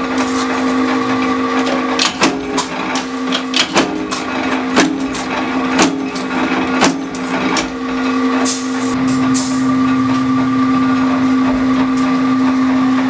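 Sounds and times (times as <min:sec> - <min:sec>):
press humming: 0:00.0 - 0:13.0.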